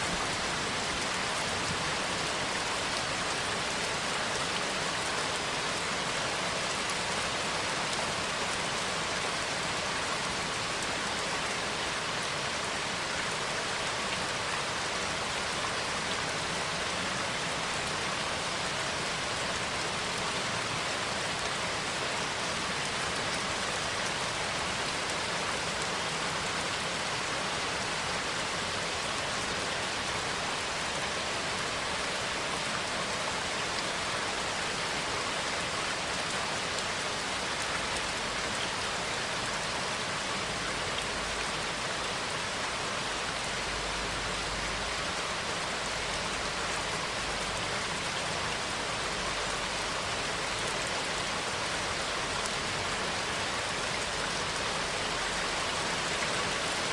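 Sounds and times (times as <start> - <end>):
steady rain patter: 0.0 - 56.9.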